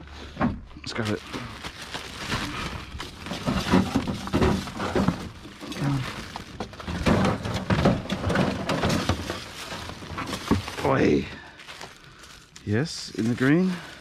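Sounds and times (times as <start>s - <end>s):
junk clattering in a pile: 0.2s - 11.9s.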